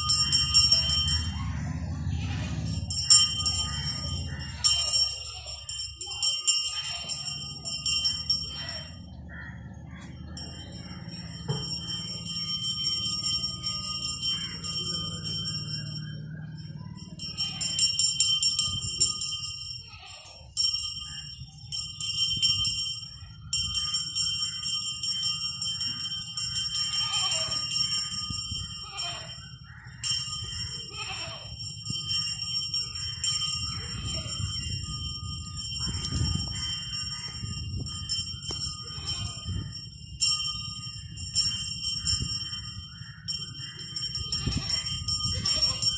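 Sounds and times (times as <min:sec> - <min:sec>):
bells jingling: 0:00.0 - 0:45.9.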